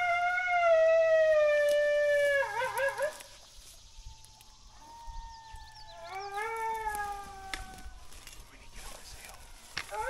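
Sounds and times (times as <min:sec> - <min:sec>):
coyote howling: 0:00.0 - 0:03.4, 0:04.0 - 0:10.0.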